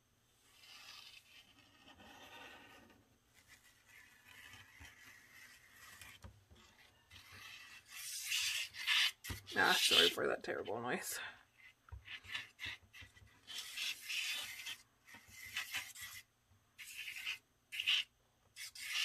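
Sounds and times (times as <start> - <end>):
glue nozzle scraping paper: 0.4 - 10.6, 11.5 - 19.0.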